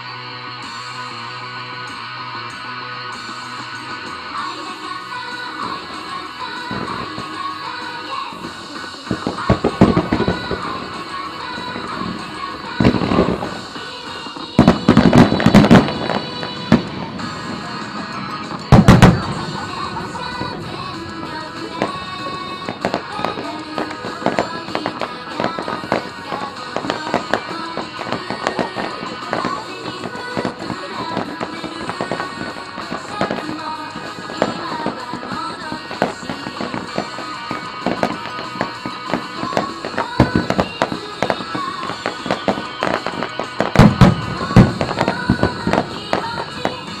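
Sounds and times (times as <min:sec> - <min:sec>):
music playing: 0:00.0 - 0:47.0
fireworks bursting: 0:03.1 - 0:47.0.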